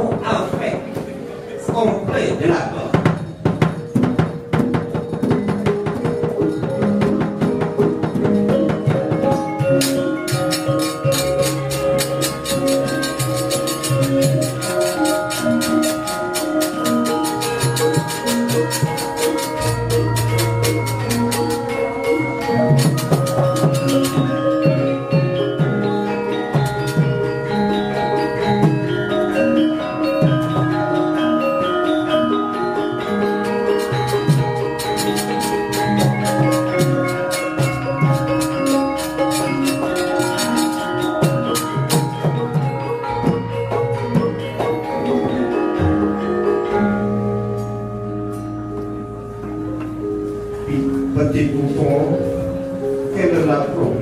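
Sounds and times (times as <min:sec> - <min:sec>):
gamelan ensemble playing: 0:00.0 - 0:54.0
ringing metallophone notes: 0:00.0 - 0:54.0.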